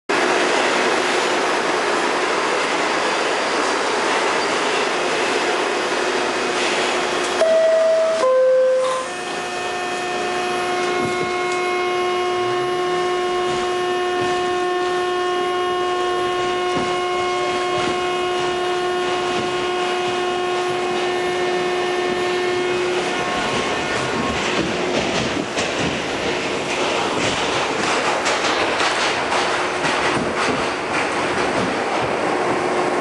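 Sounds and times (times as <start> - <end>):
subway car whine: 0.1 - 33.0
train running rumble: 0.1 - 33.0
wheel and rail noise: 0.1 - 33.0.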